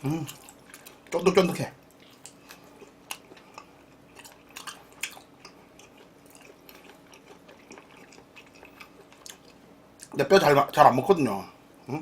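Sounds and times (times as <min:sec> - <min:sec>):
person chewing: 0:00.0 - 0:10.2.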